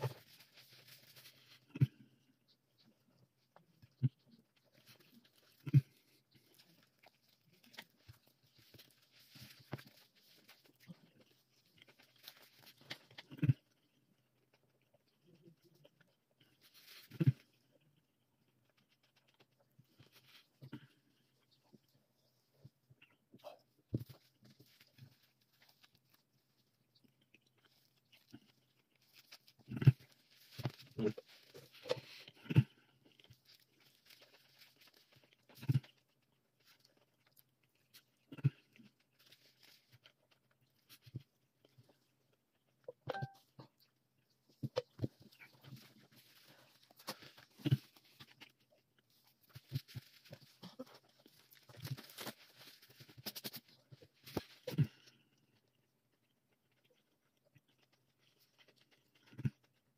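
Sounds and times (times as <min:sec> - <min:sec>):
biting and chewing sandwich: 0:00.0 - 0:43.0, 0:43.6 - 0:59.9.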